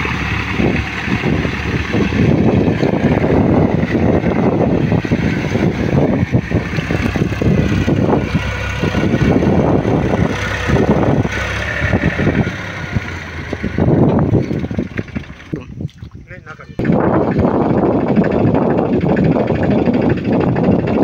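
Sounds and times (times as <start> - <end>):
tractor diesel engine rumbling: 0.0 - 21.0.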